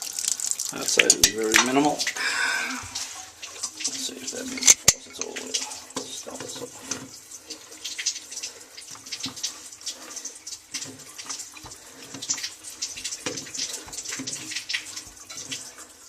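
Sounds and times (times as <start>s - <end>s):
water running from faucet: 0.0s - 16.0s.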